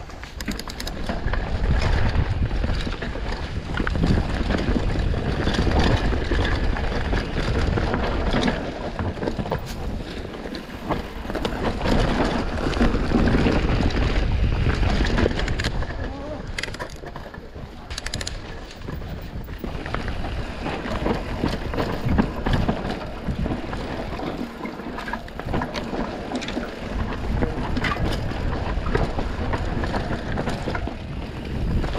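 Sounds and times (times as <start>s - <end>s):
bike rattling and clattering: 0.0s - 31.9s
tyres rolling on dirt: 0.0s - 31.9s
wind buffeting microphone: 0.0s - 31.9s.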